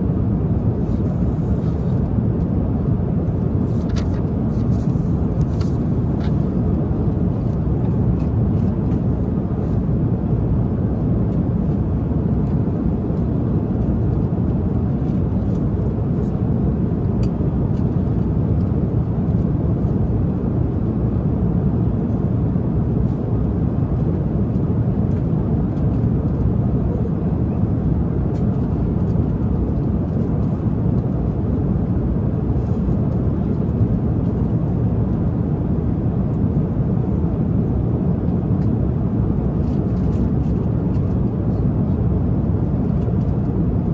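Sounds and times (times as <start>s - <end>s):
jet airliner cabin drone: 0.0s - 43.9s.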